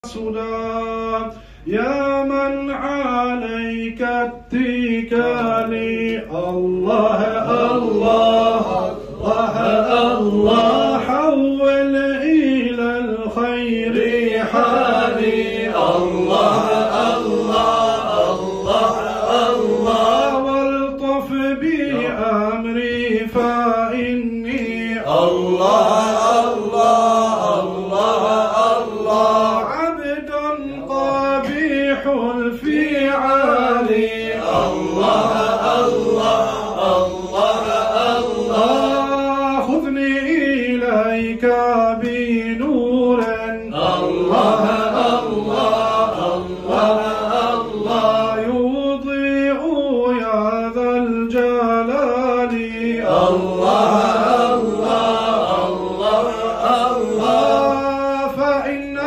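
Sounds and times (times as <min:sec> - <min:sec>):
men chanting: 0:00.0 - 0:59.0.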